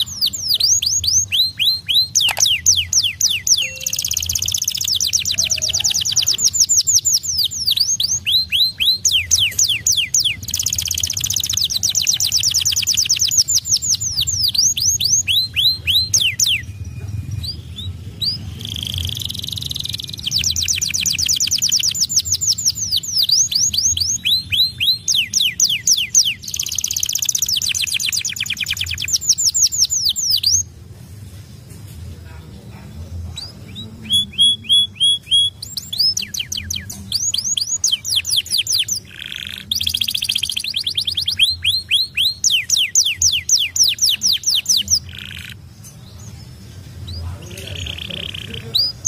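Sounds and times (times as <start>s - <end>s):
canary singing trills: 0.0s - 31.5s, 32.2s - 49.0s.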